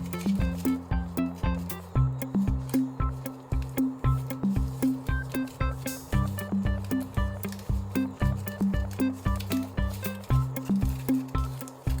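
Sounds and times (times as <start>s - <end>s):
bass line: 0.0s - 12.0s
fast drum beat: 0.0s - 12.0s.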